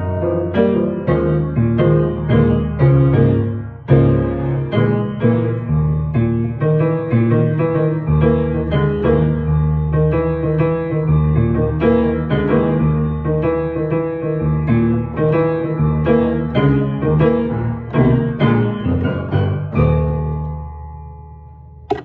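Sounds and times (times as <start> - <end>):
solo jazz piano: 0.0 - 22.0.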